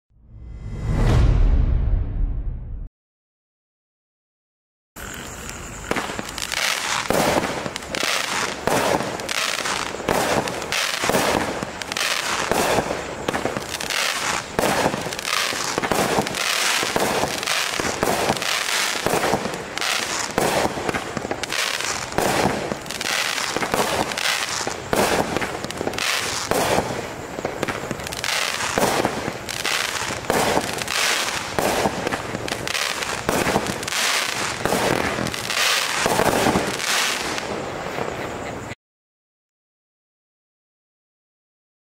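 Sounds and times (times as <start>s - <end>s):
fireworks launching and bursting: 0.2s - 2.9s, 5.0s - 38.8s.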